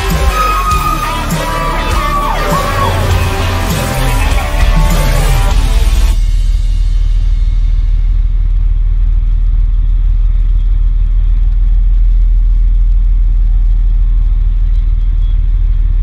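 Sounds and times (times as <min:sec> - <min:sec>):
diesel engine deep rumble: 0:00.0 - 0:06.6, 0:07.2 - 0:16.0.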